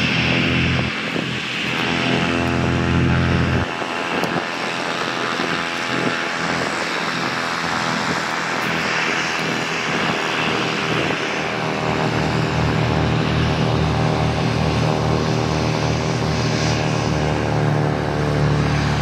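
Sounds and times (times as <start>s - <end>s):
jet engine whine and hiss: 0.0s - 19.0s.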